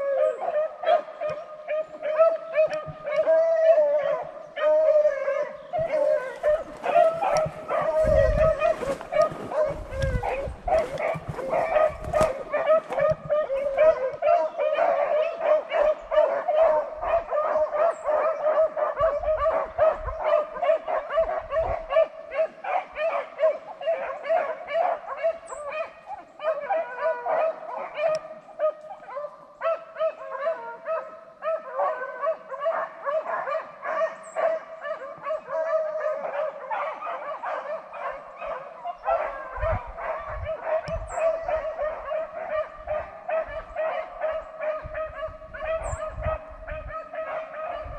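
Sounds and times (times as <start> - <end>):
pack of hounds baying: 0.0 - 47.9.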